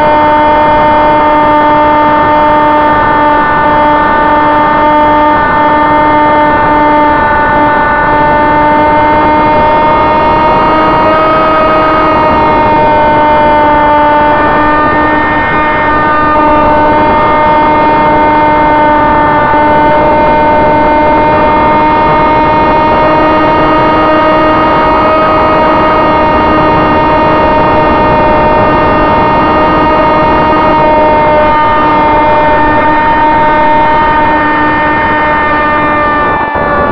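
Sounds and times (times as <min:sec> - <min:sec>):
electric motor and propeller whine: 0:00.0 - 0:36.9.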